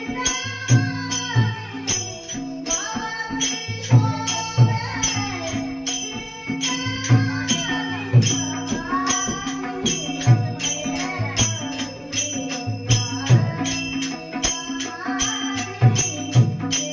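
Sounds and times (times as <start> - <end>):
bright percussion strikes: 0.0 - 16.9
woman singing devotional song: 0.0 - 16.9.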